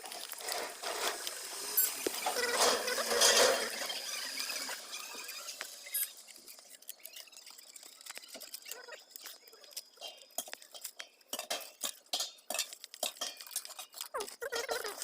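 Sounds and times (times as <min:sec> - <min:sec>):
small clicks and clinks of parts: 0:00.0 - 0:15.0.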